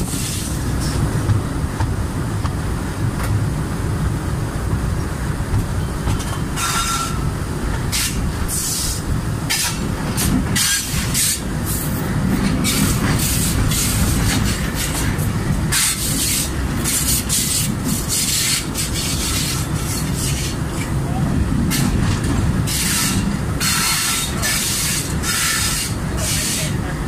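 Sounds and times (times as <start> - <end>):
diesel locomotive rumbling: 0.0 - 27.0.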